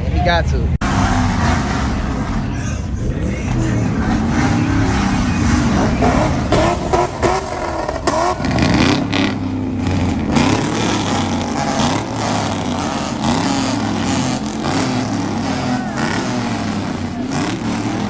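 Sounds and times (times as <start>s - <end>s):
vehicle engines revving: 0.0s - 18.0s.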